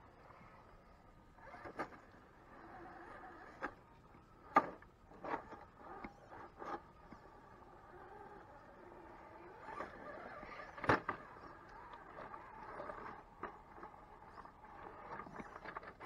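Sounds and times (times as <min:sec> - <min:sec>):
electric motor and gears whining: 0:00.2 - 0:16.0.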